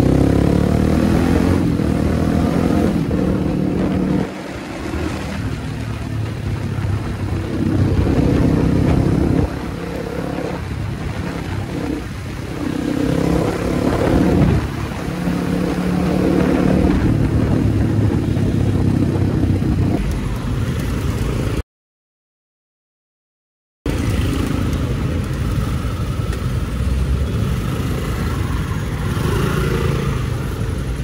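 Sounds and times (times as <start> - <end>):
motorcycle engine revving: 0.0 - 21.6, 23.9 - 31.0.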